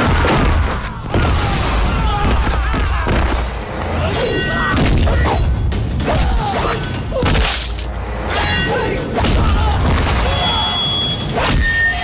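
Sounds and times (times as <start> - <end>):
dramatic background score: 0.0 - 12.0.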